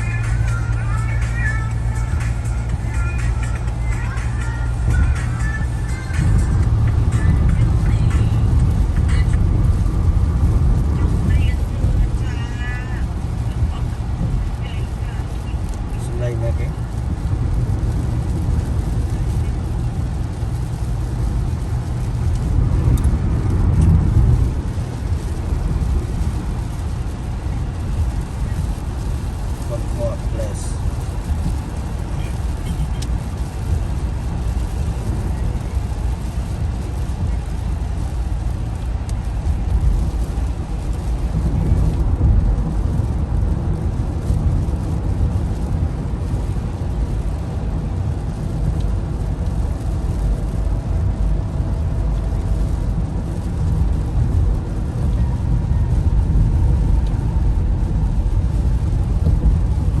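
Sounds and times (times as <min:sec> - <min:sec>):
heavy rain: 0:00.0 - 1:00.0
road traffic: 0:00.0 - 1:00.0.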